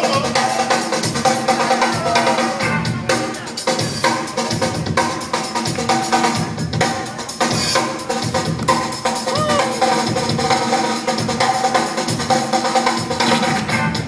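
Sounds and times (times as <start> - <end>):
breakbeat music: 0.0 - 14.0.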